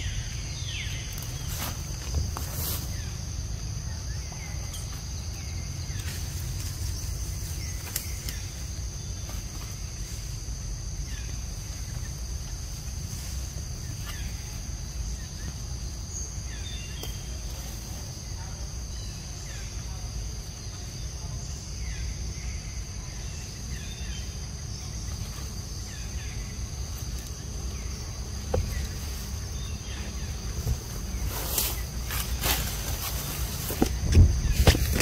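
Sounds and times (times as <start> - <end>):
rustling through leaves: 0.0 - 3.8, 4.4 - 20.9, 25.0 - 35.0
insects droning: 0.0 - 35.0.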